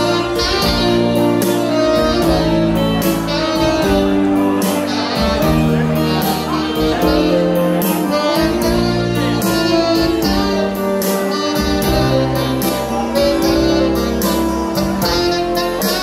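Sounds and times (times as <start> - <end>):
dance band playing party music: 0.0 - 16.0.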